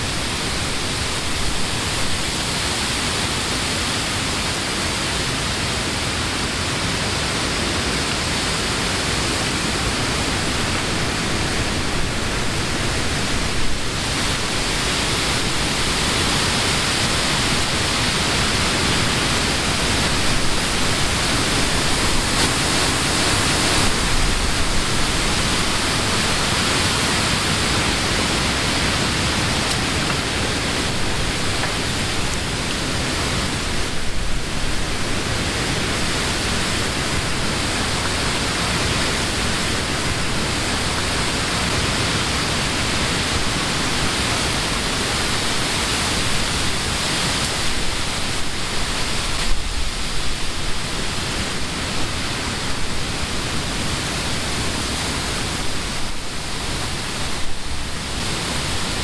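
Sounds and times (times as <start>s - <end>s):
wind through leafy trees: 0.0s - 59.0s.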